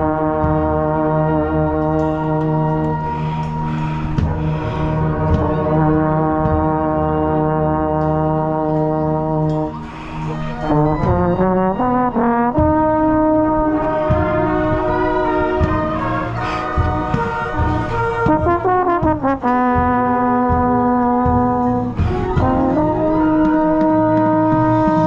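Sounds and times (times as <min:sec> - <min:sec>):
marching band brass playing: 0:00.0 - 0:25.0
trombone playing: 0:00.0 - 0:25.0.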